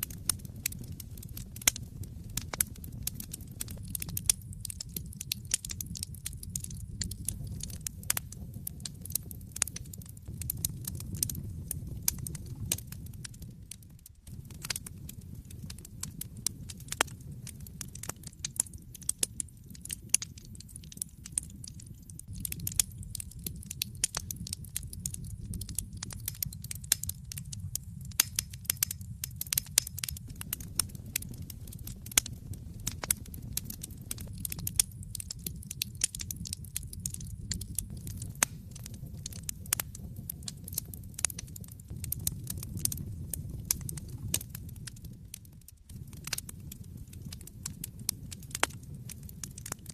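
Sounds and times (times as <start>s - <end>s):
burning logs crackling and popping: 0.0s - 49.9s
low rumble of flames: 0.0s - 49.9s.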